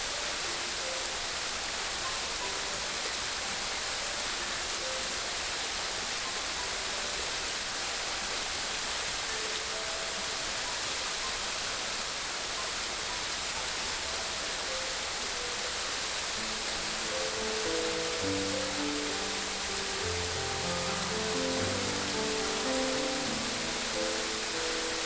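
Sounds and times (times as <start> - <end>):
faint musical notes: 0.0 - 25.0
flowing water rushing: 0.0 - 25.0.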